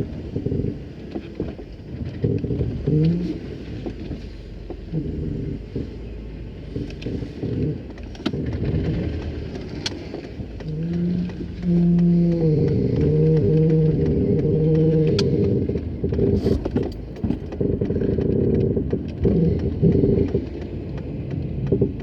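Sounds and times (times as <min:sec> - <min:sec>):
car driving heard from cabin: 0:00.0 - 0:22.0
sharp clicks: 0:01.1 - 0:22.0.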